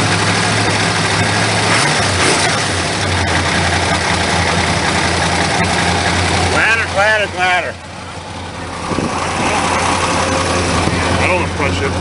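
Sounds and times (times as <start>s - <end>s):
car engine idling: 0.0s - 12.0s
engine lifters clattering: 0.0s - 12.0s.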